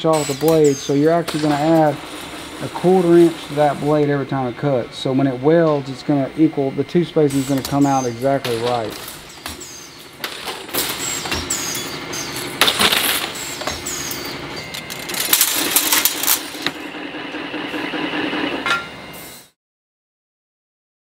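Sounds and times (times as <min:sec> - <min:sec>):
steady motor hum: 0:00.0 - 0:19.2.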